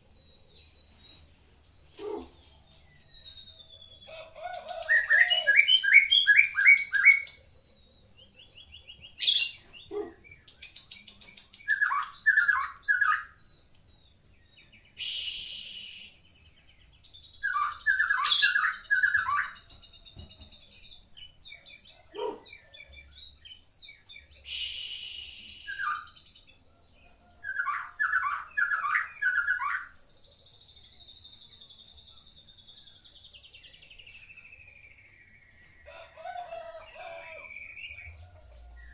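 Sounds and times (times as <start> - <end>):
bird singing whistled song: 0.0 - 26.5, 27.4 - 35.8.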